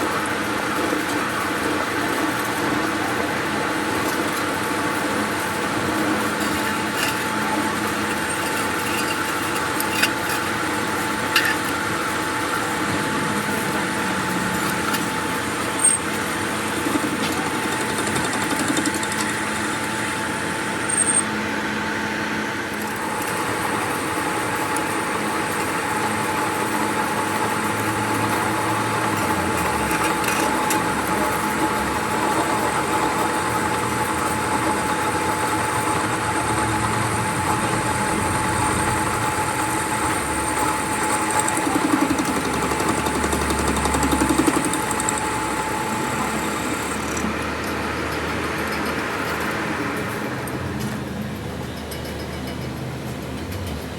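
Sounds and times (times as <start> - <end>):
machine humming: 0.1 - 51.2.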